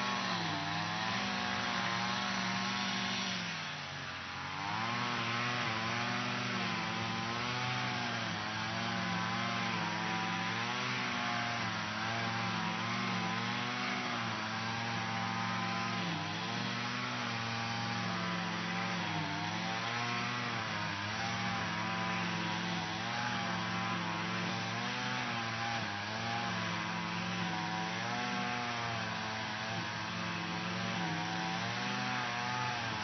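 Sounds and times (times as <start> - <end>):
lawn mower running: 0.0 - 33.0.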